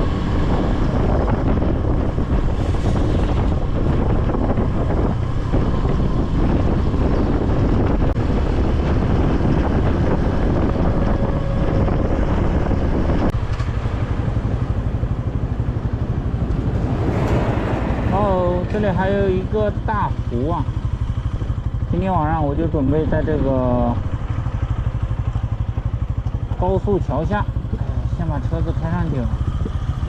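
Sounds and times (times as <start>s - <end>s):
motorcycle engine: 0.0s - 30.0s
wind rush on microphone: 0.0s - 30.0s.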